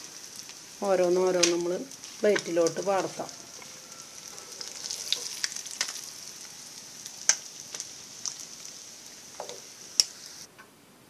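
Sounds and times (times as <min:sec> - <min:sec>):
fish frying in hot oil: 0:00.0 - 0:10.5.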